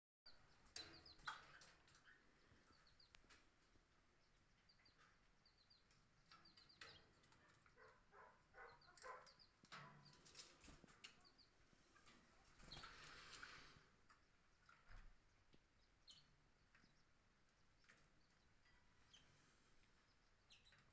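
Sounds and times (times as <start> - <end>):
canaries cheeping: 0.3 - 20.9.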